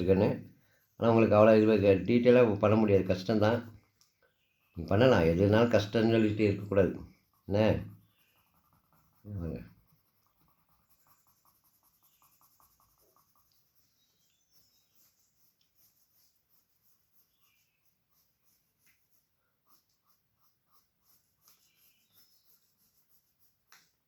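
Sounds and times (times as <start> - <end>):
pencil strokes on paper: 0.0 - 24.0.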